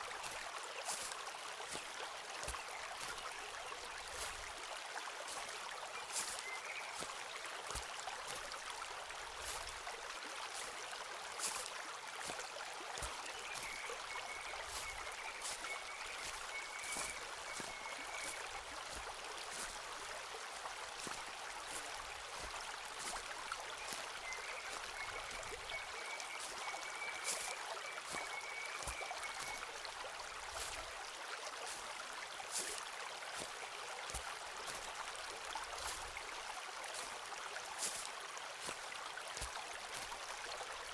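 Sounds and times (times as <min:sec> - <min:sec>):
footsteps on forest path: 0:00.0 - 0:40.9
stream running: 0:00.0 - 0:40.9.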